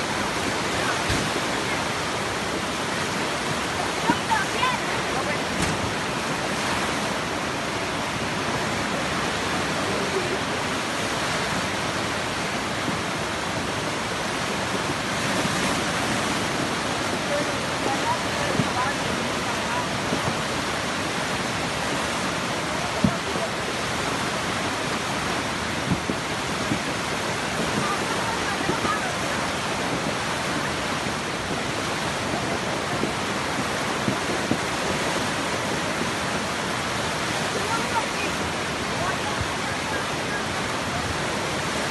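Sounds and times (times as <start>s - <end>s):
river rushing: 0.0s - 41.9s.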